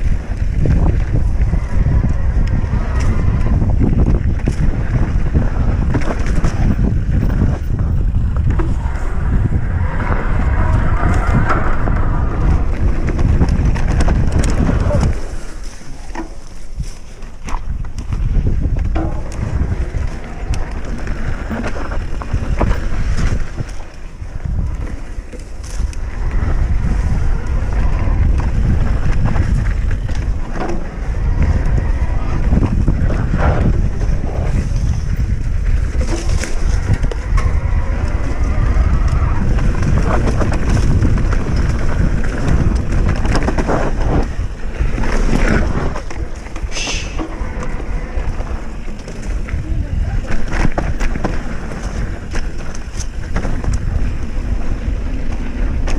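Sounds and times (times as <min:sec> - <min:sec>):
bike rattling and clicking: 0:00.0 - 0:55.9
mountain bike rolling rumble: 0:00.0 - 0:55.9
wind buffeting microphone: 0:00.0 - 0:55.9.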